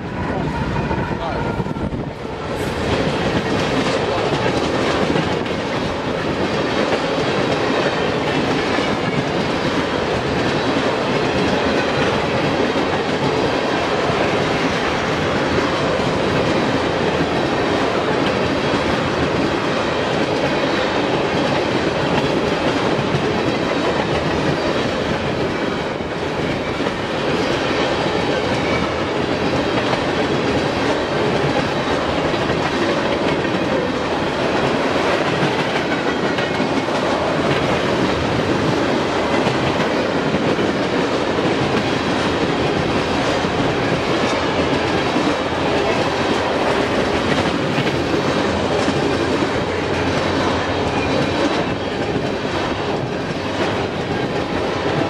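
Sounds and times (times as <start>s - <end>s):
steel wheels rolling on rails: 1.8s - 55.0s.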